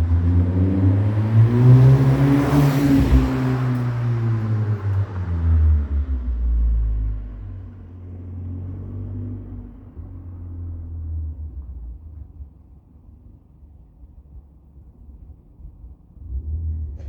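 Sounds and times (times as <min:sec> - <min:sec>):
car exhaust rumble: 0:00.0 - 0:17.0.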